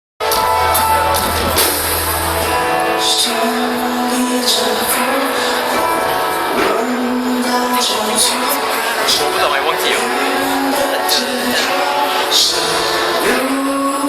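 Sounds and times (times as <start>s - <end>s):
live pop music: 0.2s - 14.0s.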